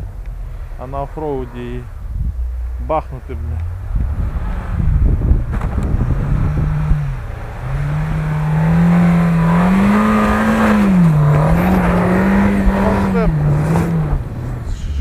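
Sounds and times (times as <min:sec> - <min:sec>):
car engine revving: 0:00.0 - 0:15.0
rough low rumble: 0:00.0 - 0:15.0.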